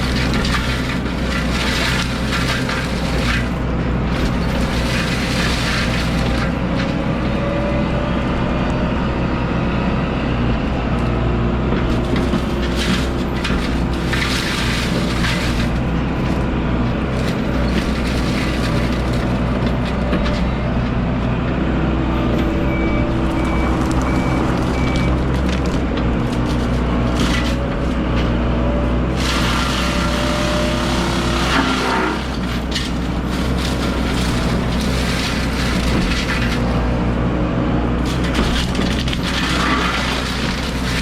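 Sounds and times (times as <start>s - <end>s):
heavy diesel machinery running: 0.0s - 41.0s.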